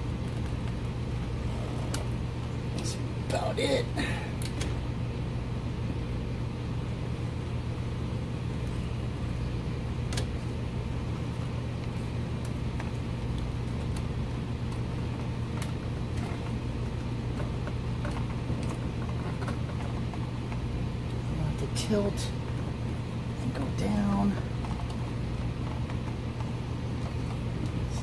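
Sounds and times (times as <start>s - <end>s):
low hum of machinery: 0.0s - 28.0s.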